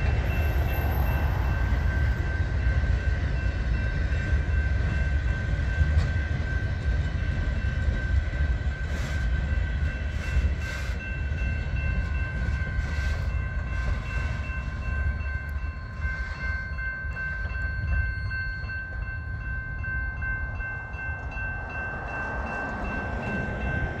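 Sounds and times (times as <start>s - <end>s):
crossing bell ringing: 0.0s - 24.0s
train wheels rumbling on rails: 0.0s - 24.0s.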